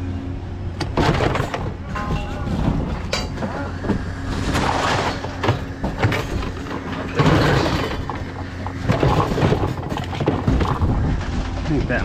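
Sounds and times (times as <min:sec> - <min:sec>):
low engine hum: 0:00.0 - 0:12.0
scrap metal knocking and scraping: 0:00.8 - 0:11.7.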